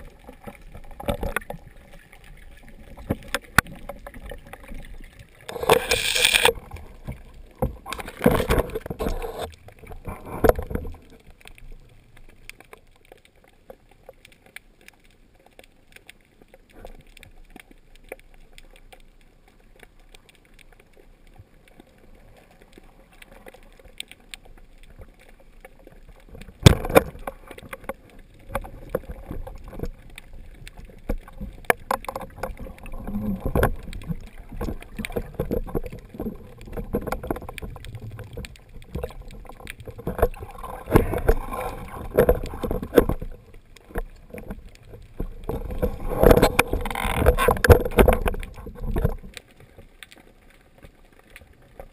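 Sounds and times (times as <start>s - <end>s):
underwater water noise: 0.0s - 51.9s.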